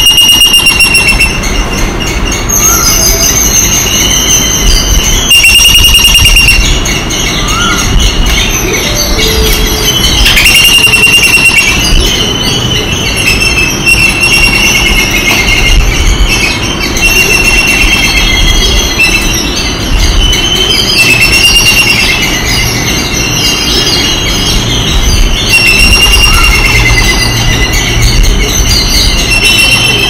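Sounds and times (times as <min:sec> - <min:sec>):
high-pitched squealing animal calls: 0:00.0 - 0:30.0.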